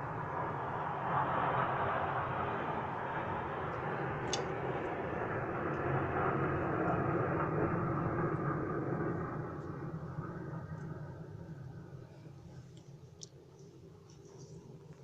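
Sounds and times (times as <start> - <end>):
airplane flying by: 0.0 - 13.0.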